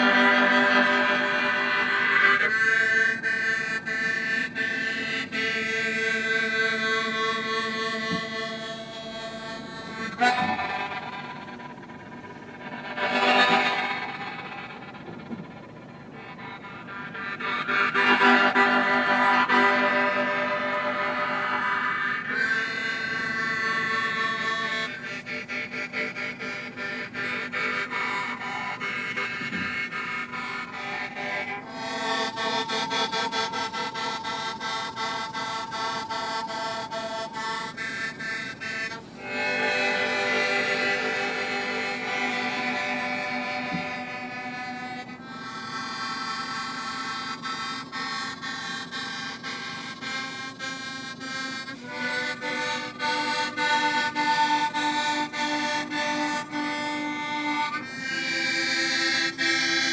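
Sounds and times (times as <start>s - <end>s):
slow reedy held chords: 0.0s - 59.9s.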